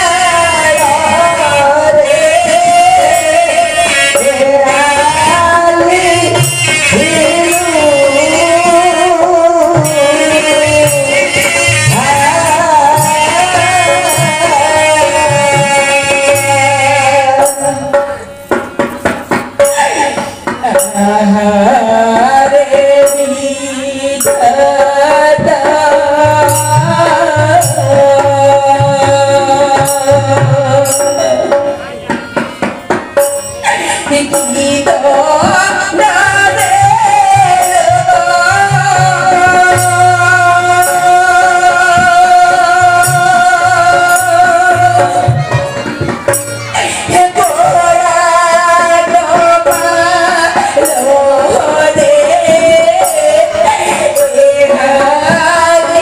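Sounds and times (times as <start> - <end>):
person singing through a microphone: 0.0 - 56.0.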